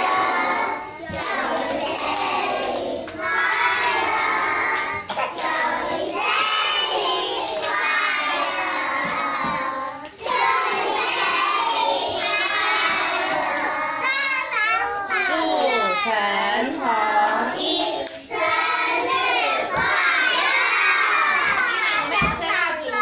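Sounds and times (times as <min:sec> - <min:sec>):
young children singing: 0:00.0 - 0:23.0.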